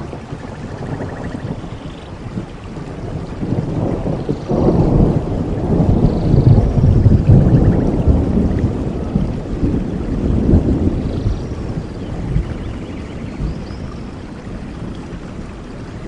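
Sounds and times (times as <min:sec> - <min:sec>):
rolling thunder rumble: 0:00.0 - 0:16.0
steady rain in a forest: 0:00.0 - 0:16.0.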